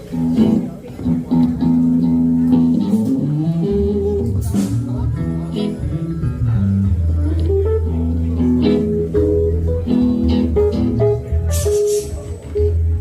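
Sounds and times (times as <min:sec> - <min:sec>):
bass line: 0:00.0 - 0:13.0
guitar chords: 0:00.0 - 0:13.0.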